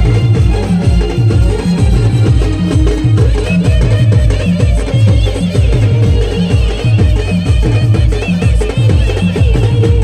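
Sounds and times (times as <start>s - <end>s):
heavy drum beat: 0.0s - 10.0s.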